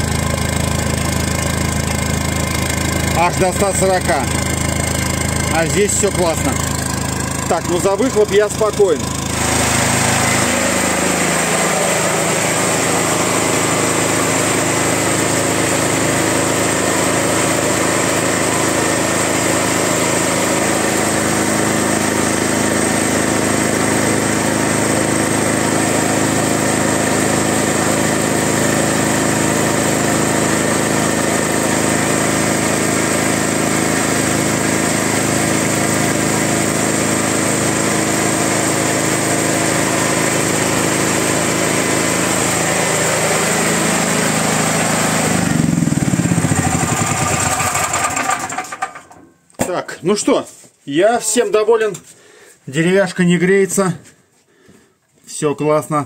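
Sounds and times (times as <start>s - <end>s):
petrol generator engine running: 0.0s - 49.3s.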